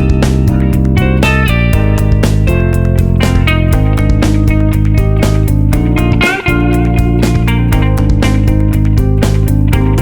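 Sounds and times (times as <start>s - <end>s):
upbeat guitar music: 0.0s - 10.0s.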